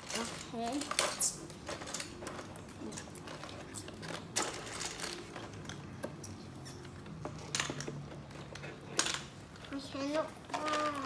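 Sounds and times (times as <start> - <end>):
plastic bricks clicking and rattling: 0.0 - 11.0.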